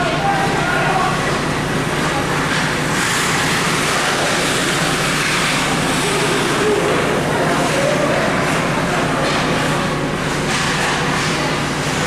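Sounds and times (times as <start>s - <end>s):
ice hockey arena din: 0.0s - 12.0s.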